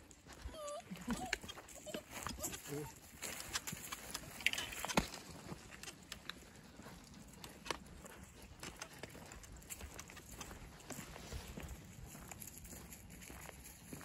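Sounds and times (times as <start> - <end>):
footsteps on fallen leaves: 1.6 - 14.0.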